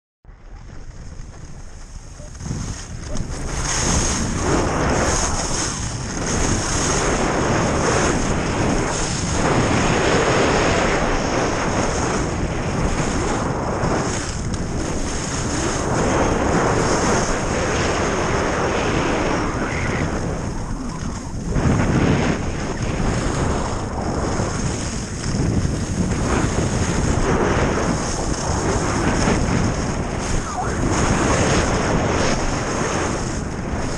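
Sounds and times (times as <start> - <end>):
wind buffeting microphone: 0.3 - 33.9
skis scraping hard snow: 0.5 - 33.9.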